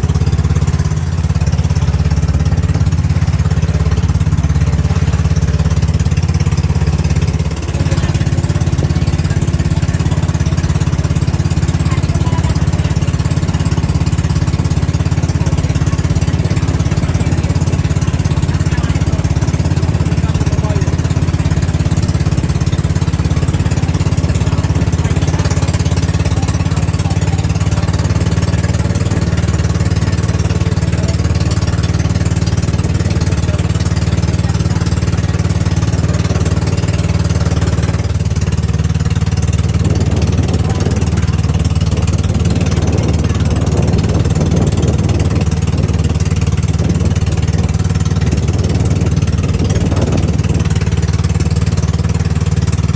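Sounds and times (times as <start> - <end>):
boat engine running: 0.0 - 52.9.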